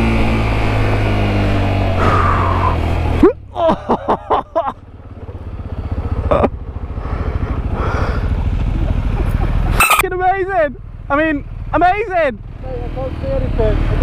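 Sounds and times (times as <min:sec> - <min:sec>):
motorcycle engine running: 0:00.0 - 0:14.0
motorcycle engine idling: 0:00.1 - 0:14.0.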